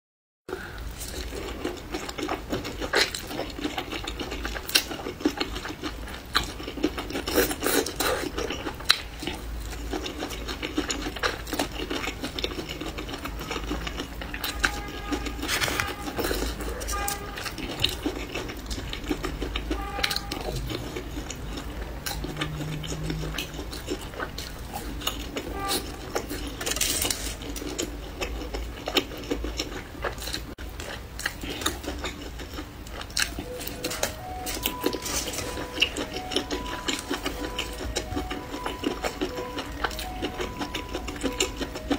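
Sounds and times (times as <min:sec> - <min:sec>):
crunching and chewing vegetables: 0:00.5 - 0:41.9.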